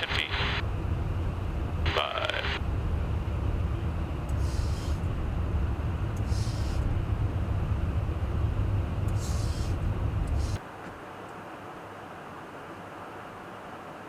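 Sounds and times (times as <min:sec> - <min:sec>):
aircraft engine and airflow rumble: 0:00.0 - 0:14.0.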